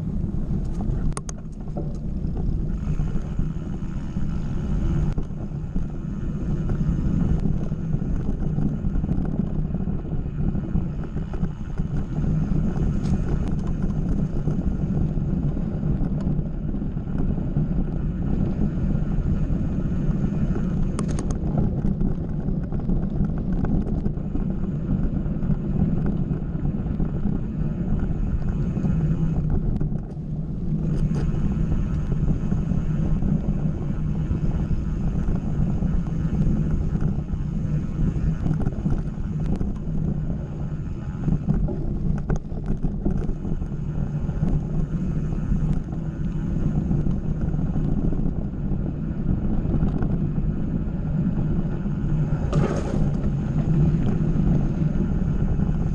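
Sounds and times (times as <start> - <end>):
bike tyres rolling on dirt: 0.0 - 55.9
wind rumble on microphone: 0.0 - 55.9.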